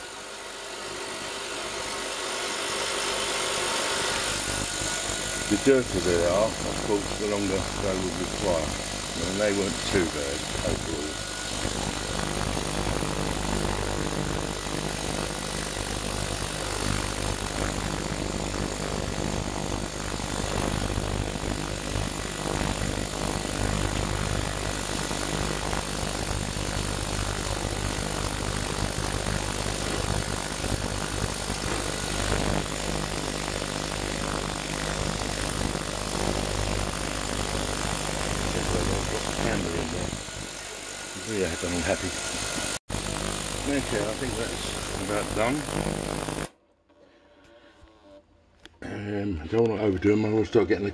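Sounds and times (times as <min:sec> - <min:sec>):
ultrasonic cleaner humming and hissing: 0:00.0 - 0:46.6.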